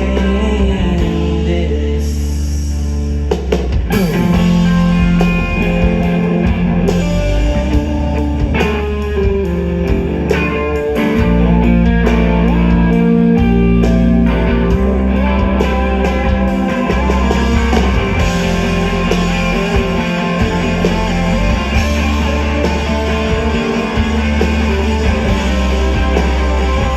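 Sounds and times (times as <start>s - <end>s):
electric guitar: 0.0s - 26.9s
live rock band playing: 0.0s - 26.9s.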